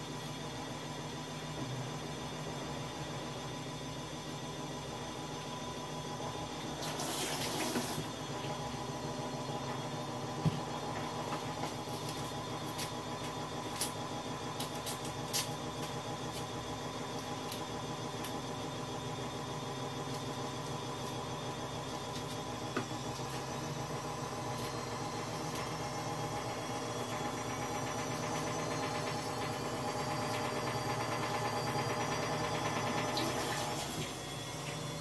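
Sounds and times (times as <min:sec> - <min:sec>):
mechanical motor hum: 0:00.0 - 0:35.0.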